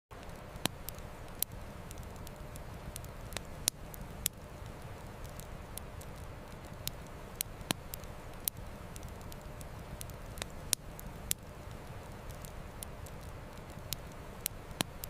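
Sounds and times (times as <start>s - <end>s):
campfire crackling and popping: 0.1s - 15.0s.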